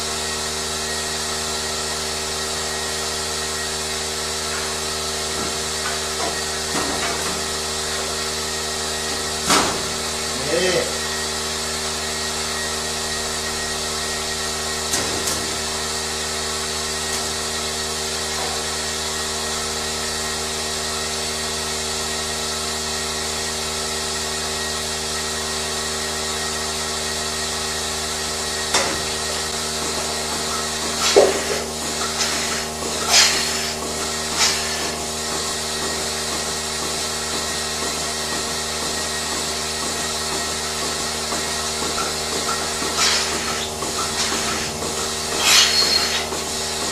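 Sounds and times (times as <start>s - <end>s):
machinery humming: 0.0s - 46.9s.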